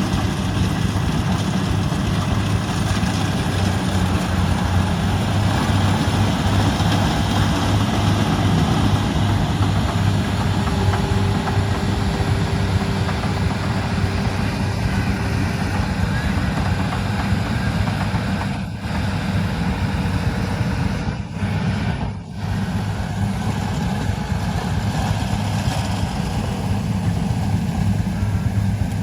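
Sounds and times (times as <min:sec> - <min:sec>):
combine harvester engine running: 0:00.0 - 0:29.0
machinery noise: 0:00.0 - 0:29.0.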